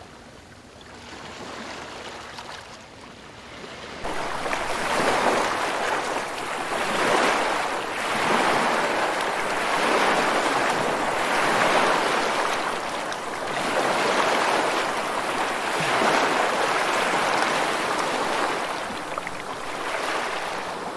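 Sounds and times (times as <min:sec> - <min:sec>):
ocean waves rushing: 0:03.9 - 0:20.9.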